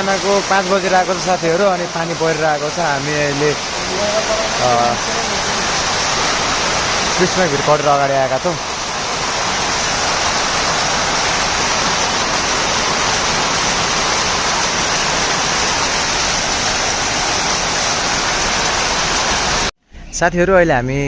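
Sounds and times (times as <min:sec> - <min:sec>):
rain falling: 0:00.0 - 0:19.7.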